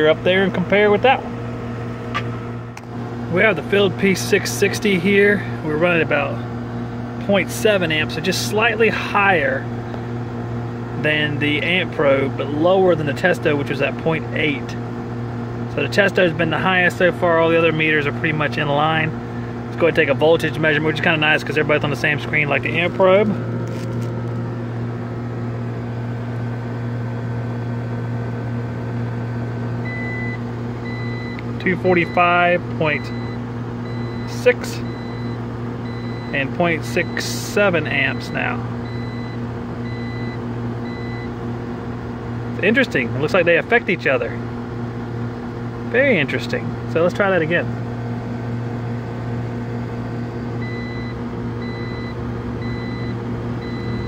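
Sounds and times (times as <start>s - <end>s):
air conditioner unit running: 0.0s - 54.0s.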